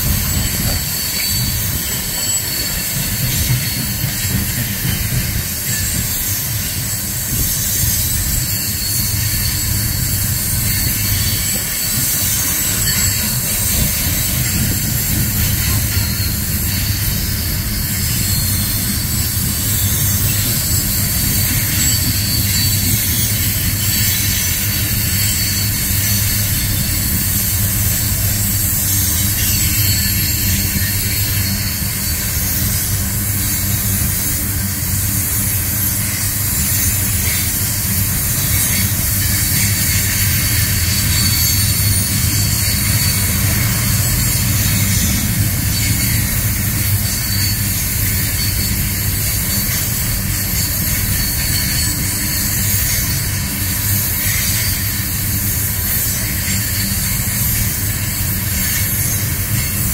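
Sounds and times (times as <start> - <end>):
steel wheels rumbling on rail: 0.0 - 59.9.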